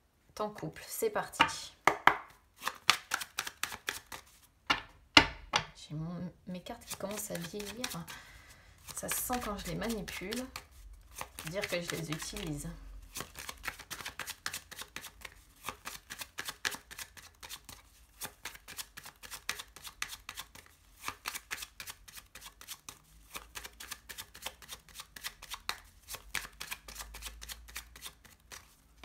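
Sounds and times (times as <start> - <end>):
cards shuffled by hand: 2.2 - 4.9, 6.8 - 28.8.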